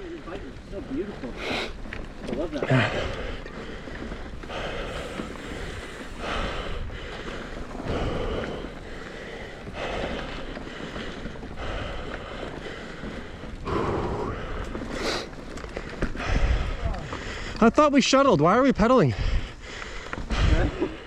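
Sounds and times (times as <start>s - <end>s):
person breathing hard: 1.4s - 1.8s, 2.7s - 17.6s, 19.1s - 21.0s.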